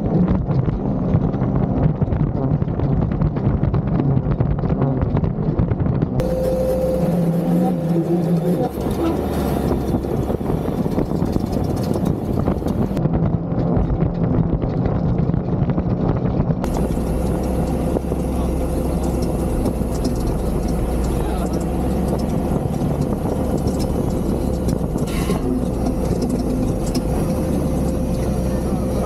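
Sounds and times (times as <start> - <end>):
off-road vehicle engines running: 0.0 - 29.0.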